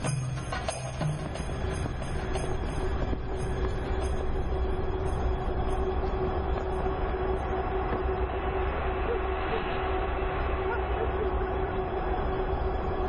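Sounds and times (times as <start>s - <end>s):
constant humming tone: 0.0s - 13.0s
freight train rumbling: 0.0s - 13.0s.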